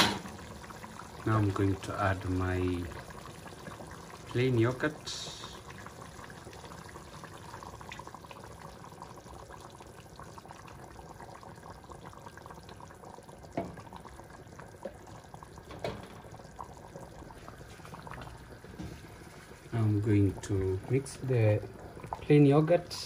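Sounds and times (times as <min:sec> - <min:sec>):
sauce bubbling in a pot: 0:00.0 - 0:23.0.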